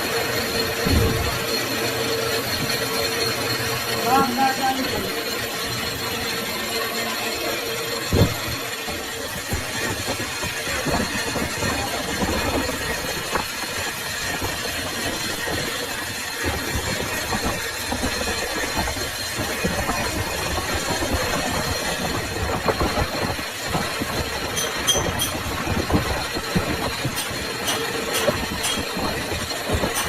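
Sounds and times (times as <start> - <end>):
metal lathe running: 0.0 - 30.0
rapid mechanical rattle: 0.0 - 30.0.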